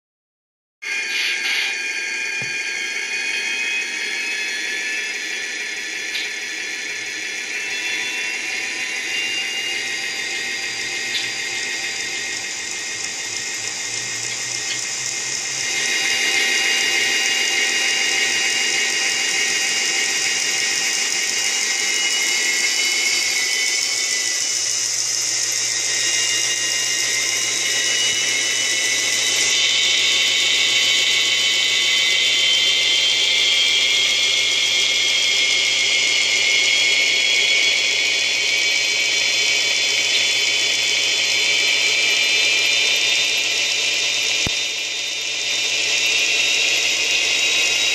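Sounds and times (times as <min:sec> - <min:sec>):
diesel locomotive engine drone: 0:01.0 - 0:47.9.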